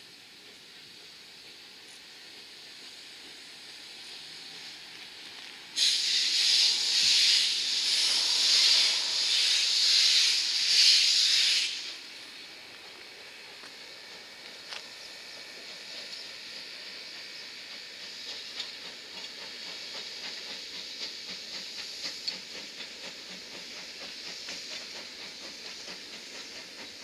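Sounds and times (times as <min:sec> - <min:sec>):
faint train rolling: 0:00.0 - 0:27.0
locomotive steam hiss: 0:00.0 - 0:27.0.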